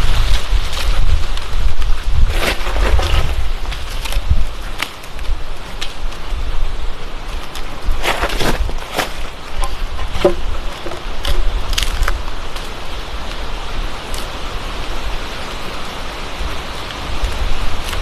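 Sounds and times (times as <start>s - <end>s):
heavy rain: 0.0s - 8.7s, 9.3s - 18.0s
wind buffeting microphone: 0.0s - 18.0s.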